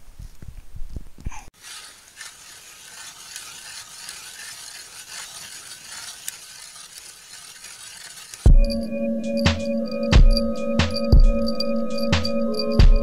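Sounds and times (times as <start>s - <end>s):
ice auger scraping into ice: 1.6s - 12.8s.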